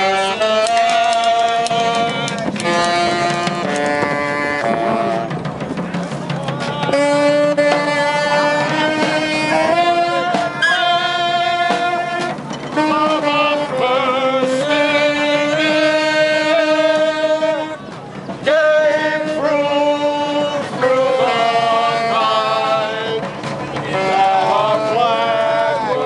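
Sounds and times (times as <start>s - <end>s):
street music slow melody: 0.0s - 26.0s.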